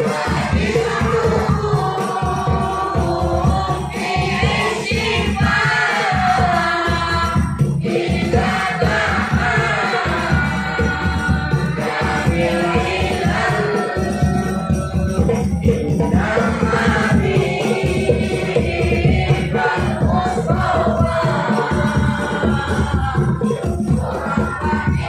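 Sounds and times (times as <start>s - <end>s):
hand drum percussion: 0.0s - 25.0s
tambourine jingles: 0.0s - 25.0s
voices singing together: 0.0s - 25.0s.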